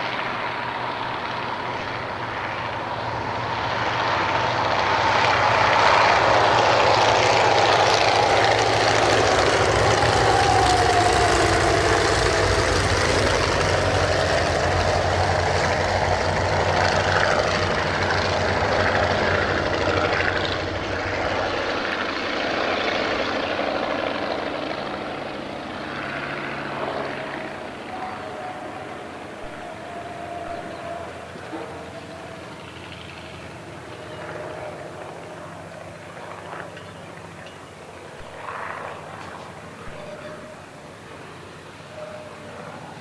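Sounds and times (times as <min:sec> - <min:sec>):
propeller planes flying past low: 0:00.0 - 0:43.0.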